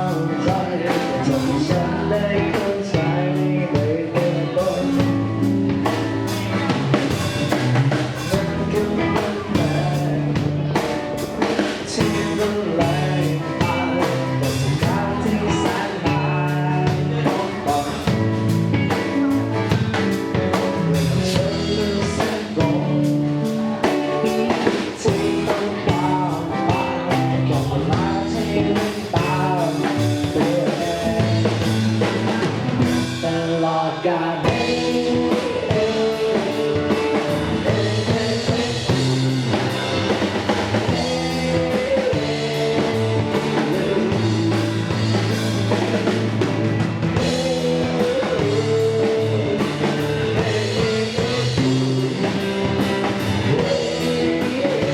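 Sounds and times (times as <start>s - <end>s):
bending guitar lead line: 0.0s - 54.9s
rock band playing live: 0.0s - 54.9s.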